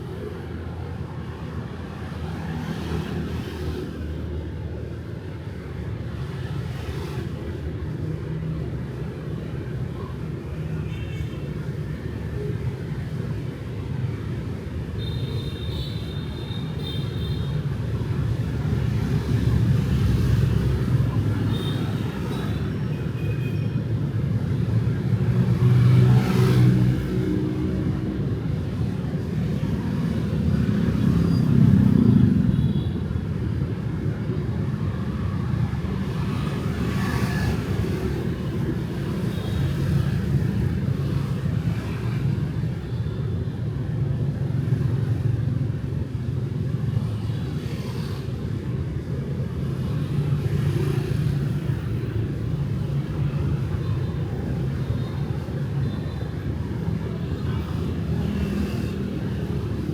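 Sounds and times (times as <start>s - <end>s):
street traffic rumble: 0.0s - 59.9s.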